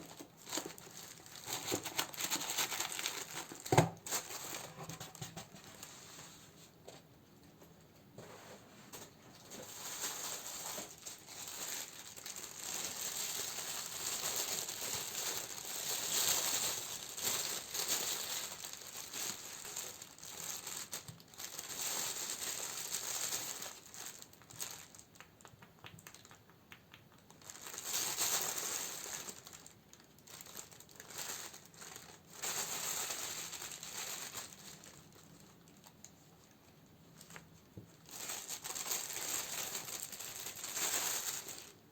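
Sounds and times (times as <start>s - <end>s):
packaging crinkling and rustling: 0.0s - 6.3s, 8.9s - 26.5s, 27.1s - 41.9s.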